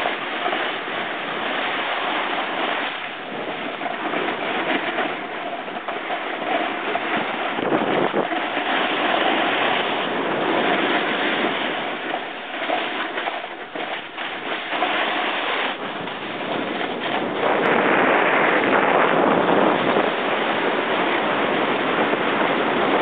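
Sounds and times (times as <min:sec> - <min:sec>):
snowboards sliding on snow: 0:00.0 - 0:23.0
wind rushing over microphone: 0:00.0 - 0:23.0.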